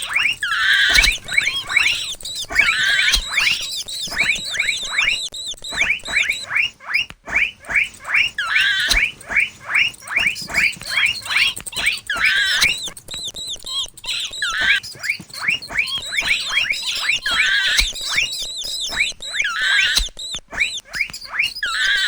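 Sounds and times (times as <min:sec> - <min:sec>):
mouse squeaks: 0:00.0 - 0:22.0.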